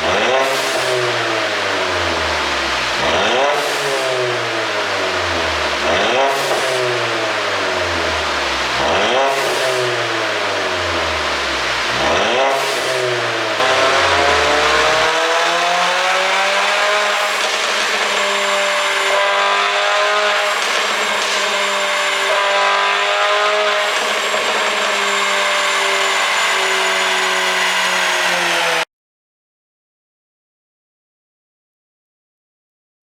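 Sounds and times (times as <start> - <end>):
car engine revving: 0.0 - 28.8.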